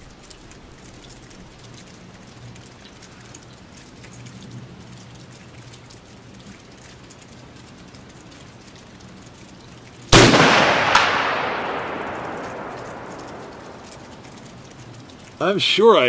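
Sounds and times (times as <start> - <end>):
heavy rain patter: 0.0 - 16.0
low steady rumble: 0.0 - 16.0.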